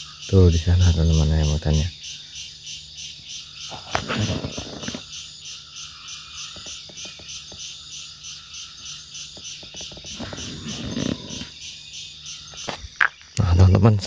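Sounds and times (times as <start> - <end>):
pulsing insect chorus: 0.0 - 14.0.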